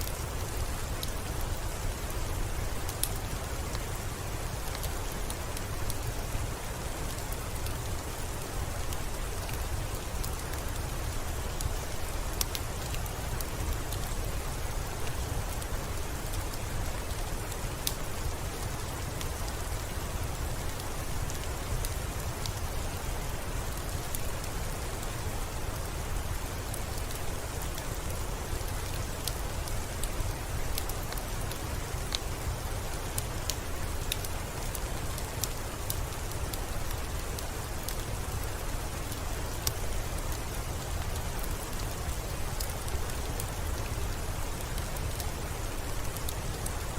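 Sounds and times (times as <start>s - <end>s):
raindrops ticking on a surface: 0.0s - 46.9s
steady rain falling: 0.0s - 46.9s.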